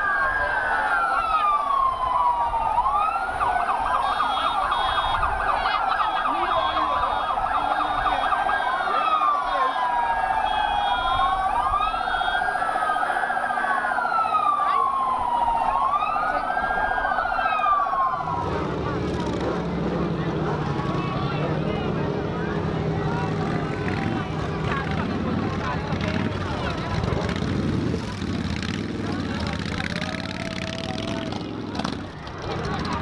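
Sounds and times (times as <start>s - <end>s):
emergency sirens wailing: 0.0s - 33.0s.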